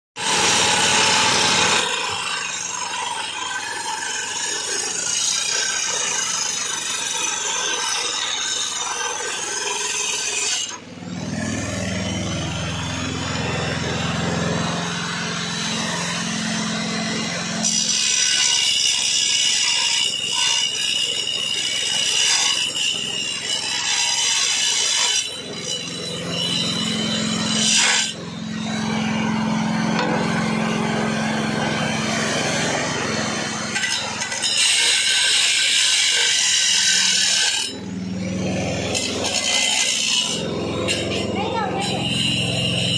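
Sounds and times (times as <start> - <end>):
angle grinder cutting tile: 0.2 - 42.9.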